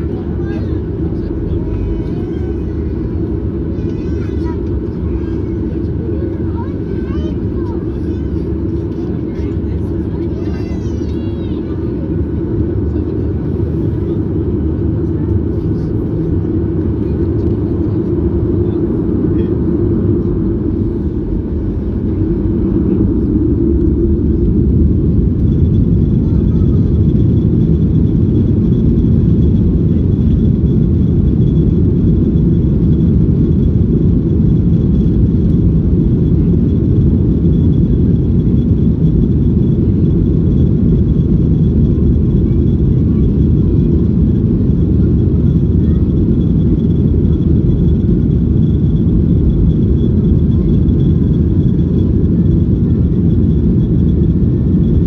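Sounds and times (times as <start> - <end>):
jet engines spooling up: 0.0 - 55.0.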